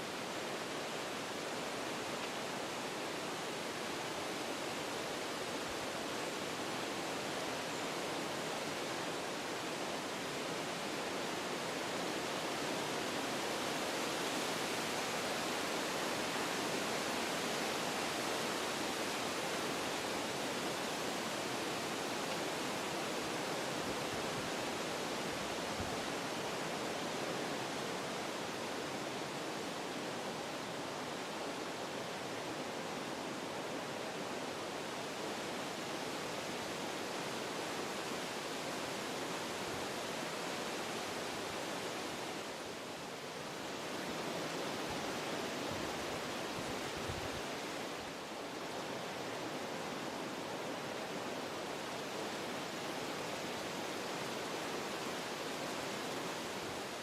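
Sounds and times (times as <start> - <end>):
wind blowing through trees: 0.0 - 57.0.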